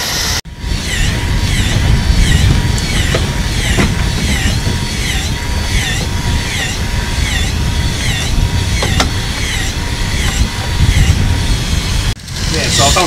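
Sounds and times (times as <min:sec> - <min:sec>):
low boat rumble: 0:00.5 - 0:13.0
fishing reel motor whining: 0:00.6 - 0:13.0.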